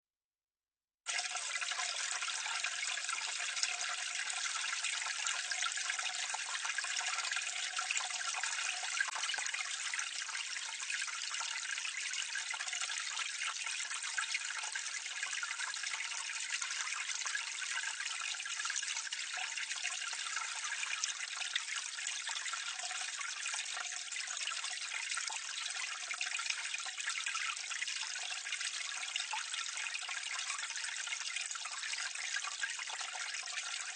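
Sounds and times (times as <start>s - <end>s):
water pouring into a drain: 1.1s - 33.9s.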